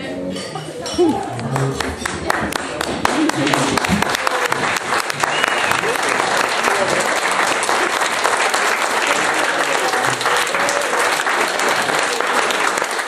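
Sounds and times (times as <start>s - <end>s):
crowd applauding: 1.1s - 13.0s.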